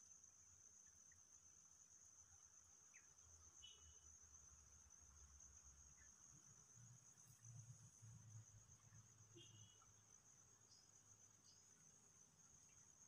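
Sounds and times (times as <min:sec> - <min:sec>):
faint insects trilling: 0:00.0 - 0:13.0.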